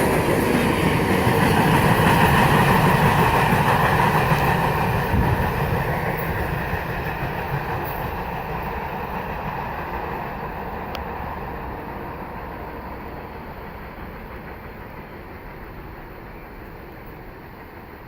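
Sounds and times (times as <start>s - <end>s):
freight train cars rolling: 0.0s - 18.0s.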